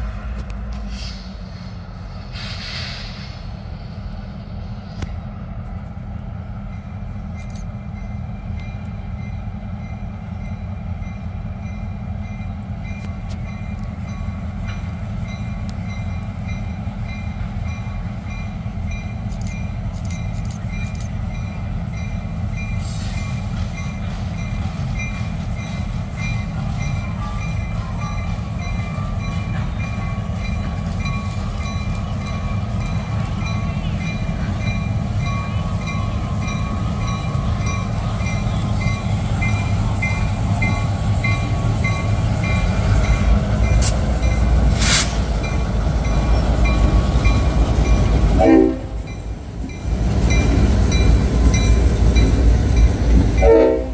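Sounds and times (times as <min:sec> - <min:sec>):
locomotive engine rumble: 0:00.0 - 0:53.9.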